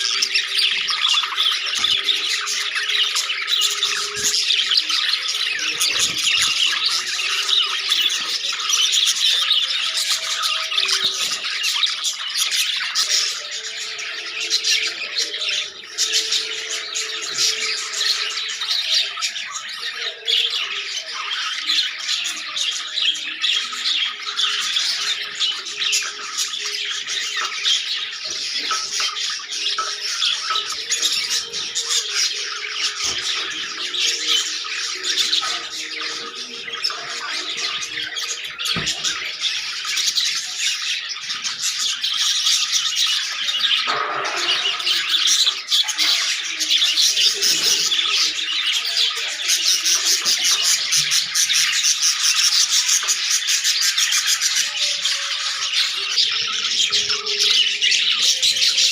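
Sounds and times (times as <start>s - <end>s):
budgerigars chattering and squawking: 0.0s - 58.9s.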